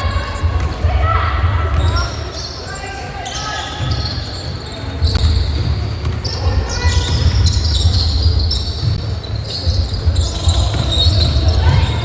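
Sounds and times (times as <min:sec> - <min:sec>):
basketball bouncing on floor: 0:00.0 - 0:02.2, 0:03.8 - 0:12.0
sneaker squeaks: 0:00.0 - 0:12.0.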